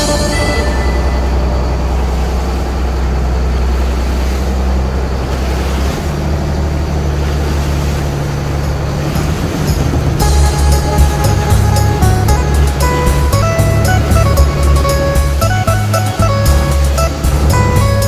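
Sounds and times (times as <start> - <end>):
boat motor droning: 0.0 - 18.0
rushing water noise: 0.0 - 18.0.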